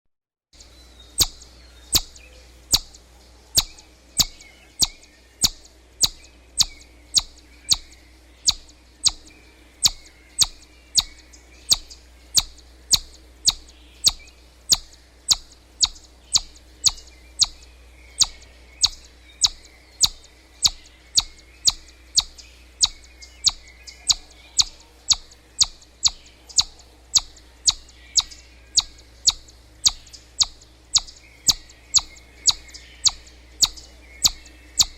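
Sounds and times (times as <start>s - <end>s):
chipmunk chipping: 0.6s - 34.9s.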